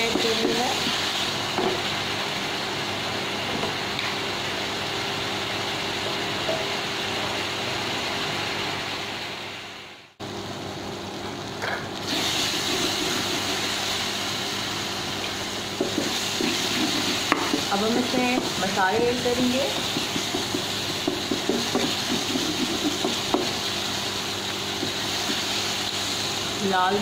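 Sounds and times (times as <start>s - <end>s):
cooling fan hum: 0.0s - 27.0s
vegetables sizzling in oil: 0.0s - 27.0s.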